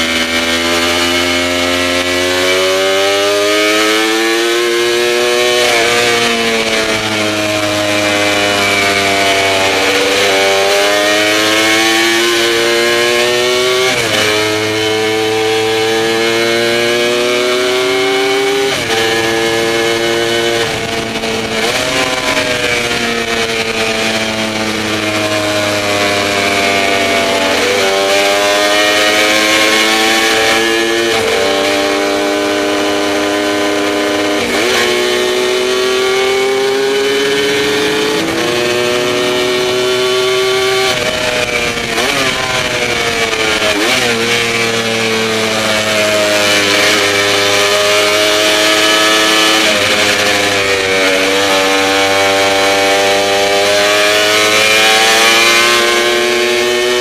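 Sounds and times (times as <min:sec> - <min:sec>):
racing engine accelerating: 0:00.0 - 0:57.0.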